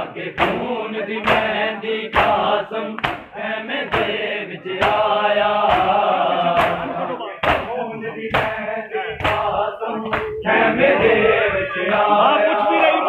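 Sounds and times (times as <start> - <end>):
crowd chest-beating in unison: 0.0 - 13.0
men chanting a lament: 0.0 - 13.0.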